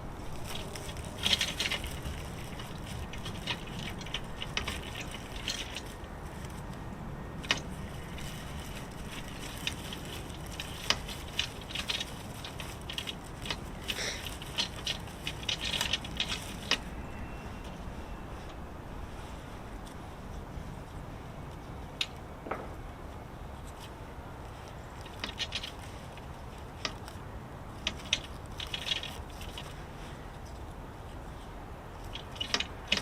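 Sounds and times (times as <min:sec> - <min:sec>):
dry fibre crackling and rustling: 0:00.0 - 0:33.0.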